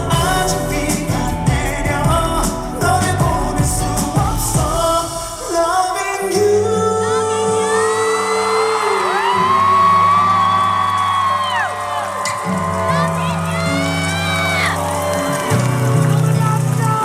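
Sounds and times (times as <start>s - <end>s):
live pop music with singing: 0.0s - 17.0s.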